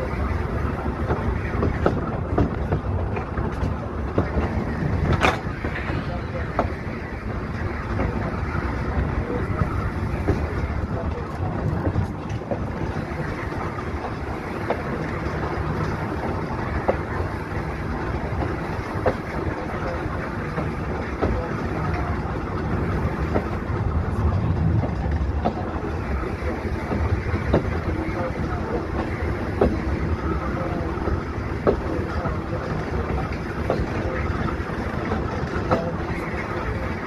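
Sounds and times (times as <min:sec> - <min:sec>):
rumble of wheels on rail: 0:00.0 - 0:37.0.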